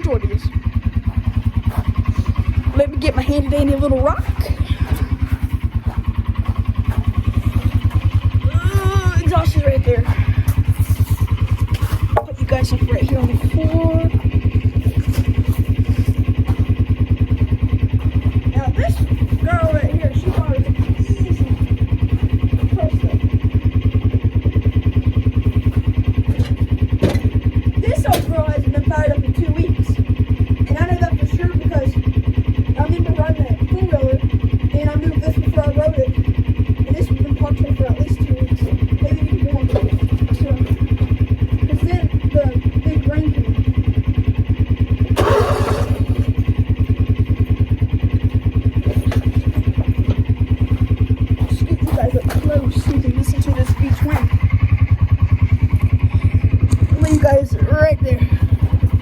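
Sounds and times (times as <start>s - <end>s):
lawnmower engine running: 0.0s - 59.0s.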